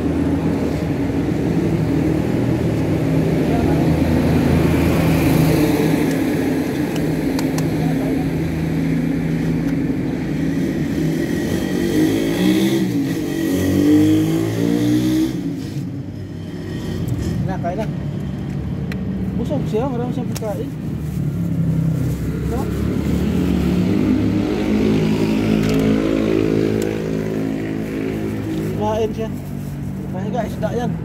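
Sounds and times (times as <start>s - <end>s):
vehicle engine running and revving: 0.0s - 31.0s.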